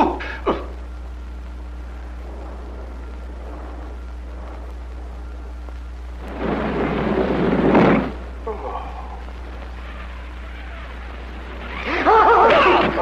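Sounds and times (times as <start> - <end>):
faint film soundtrack hiss: 0.0 - 13.0
low hum: 0.0 - 13.0.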